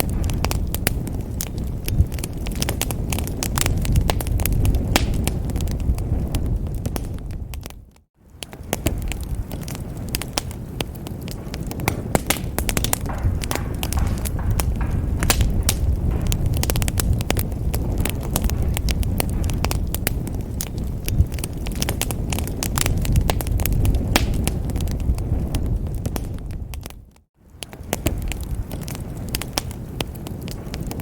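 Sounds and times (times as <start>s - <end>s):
low rumble of burning logs: 0.0s - 31.0s
wood fire crackling: 0.0s - 31.0s.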